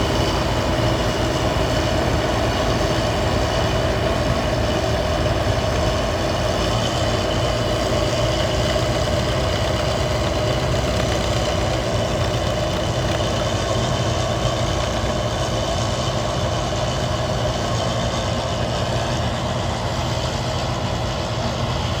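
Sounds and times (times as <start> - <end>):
combine harvester engine running: 0.0 - 22.0.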